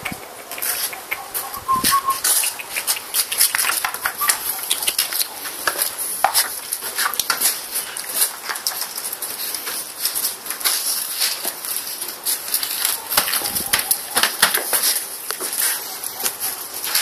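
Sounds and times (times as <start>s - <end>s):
dog claws clicking on tiled floor: 0.0s - 17.0s.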